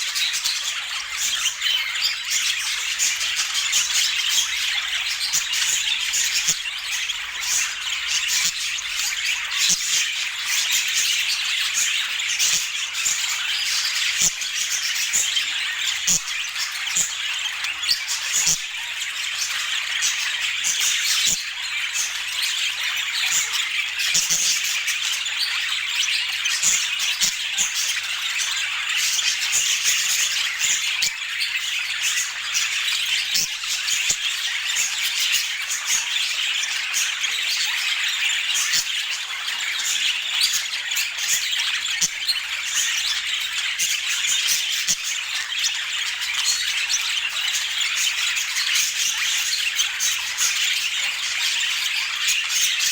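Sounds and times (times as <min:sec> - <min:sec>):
budgerigars chattering: 0:00.0 - 0:52.9.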